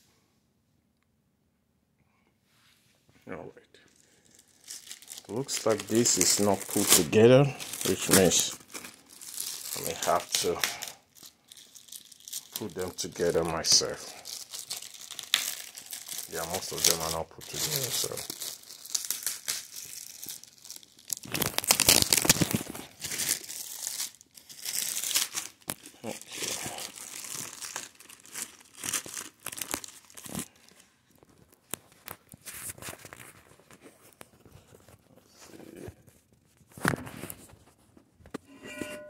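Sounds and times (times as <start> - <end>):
plastic wrap tearing and crinkling: 3.8 - 37.7.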